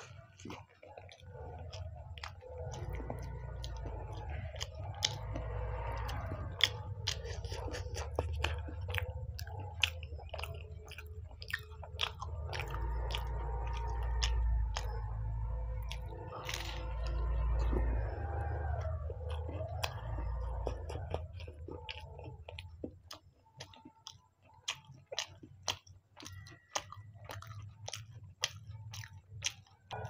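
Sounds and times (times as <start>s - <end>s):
steady low hum: 0.0s - 24.6s
chewing crunchy pastry: 0.0s - 30.0s
wet mouth sounds: 0.0s - 30.0s.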